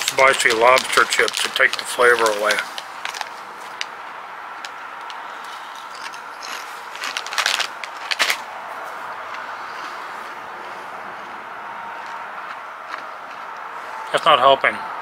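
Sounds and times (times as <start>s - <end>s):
chips crunching while chewed: 0.0s - 8.5s, 9.2s - 13.8s.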